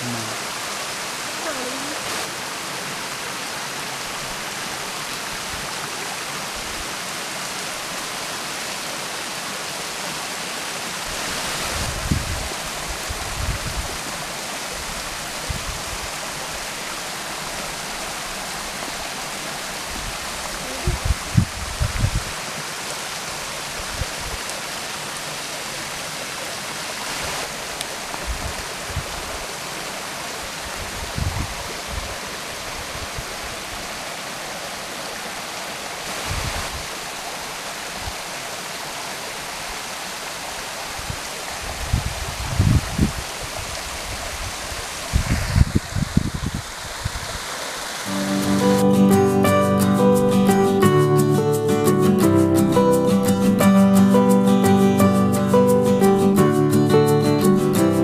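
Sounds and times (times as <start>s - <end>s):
waterfall rushing over rock: 0.0s - 55.0s.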